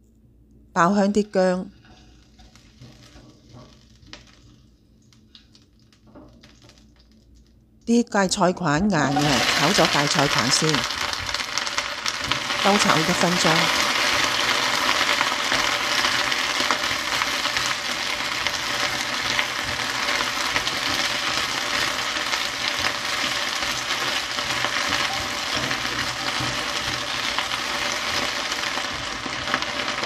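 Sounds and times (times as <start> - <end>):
vegetables sizzling in hot oil: 1.6 - 4.8, 8.9 - 30.0.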